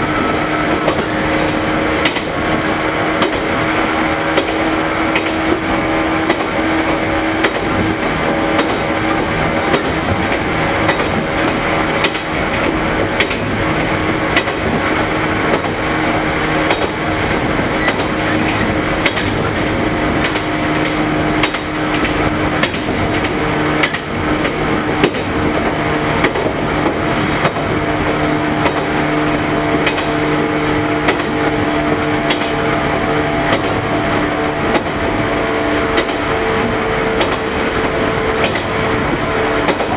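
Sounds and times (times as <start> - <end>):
electric train motors growling: 0.0 - 39.9.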